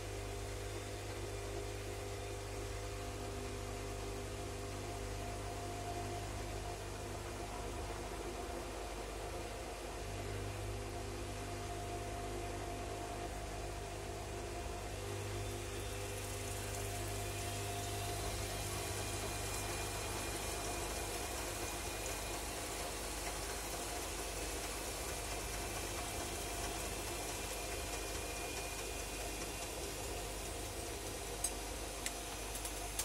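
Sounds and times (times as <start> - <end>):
washing machine hum: 0.0 - 33.0.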